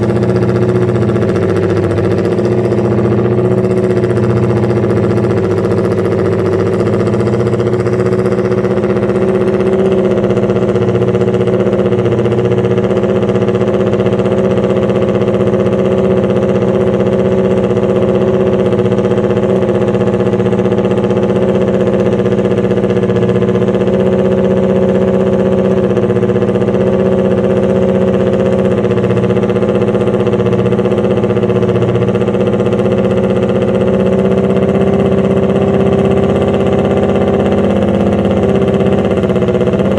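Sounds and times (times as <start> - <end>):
motorcycle engine fast idle: 0.0 - 39.9.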